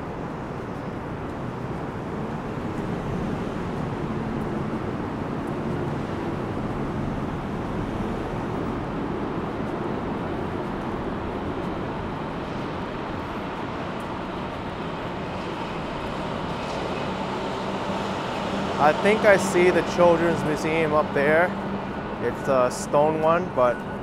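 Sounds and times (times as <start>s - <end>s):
low engine hum: 0.0s - 24.0s
road traffic passing: 0.0s - 24.0s.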